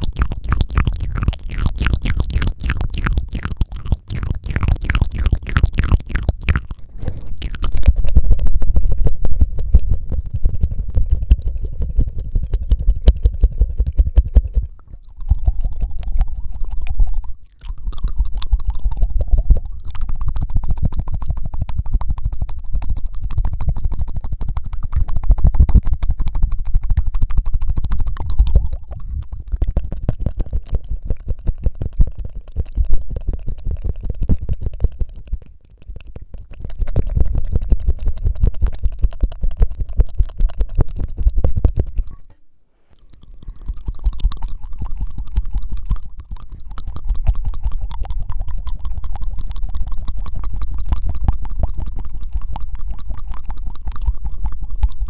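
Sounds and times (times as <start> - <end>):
tongue-fluttering mouth rattle: 0.0 - 55.0.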